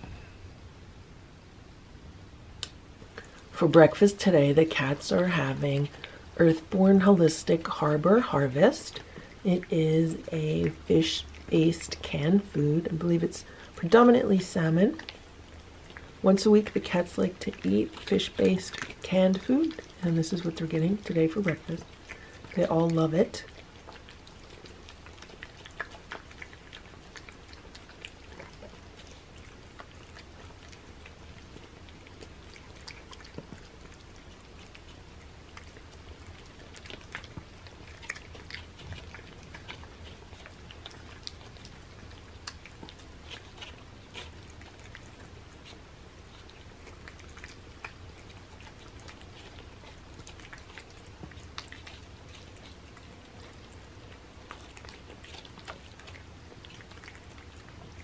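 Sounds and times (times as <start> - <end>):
cats chewing and licking: 2.6 - 58.0.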